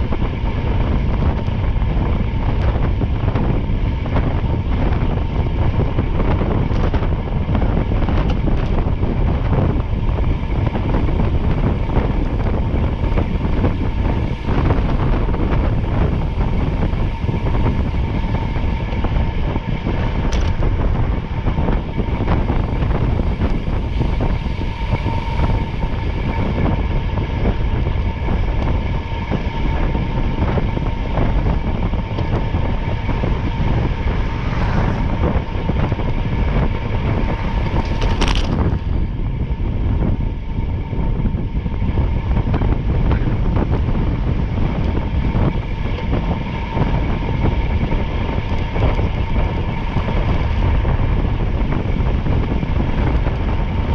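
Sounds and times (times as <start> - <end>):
vehicle running rumble and whine: 0.0 - 53.9.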